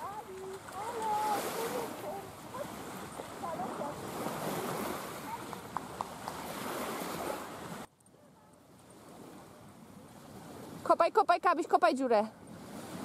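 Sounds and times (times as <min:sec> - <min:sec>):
waves washing on sandy shore: 0:00.0 - 0:07.9, 0:08.7 - 0:11.0, 0:12.3 - 0:13.0
wind: 0:00.0 - 0:13.0.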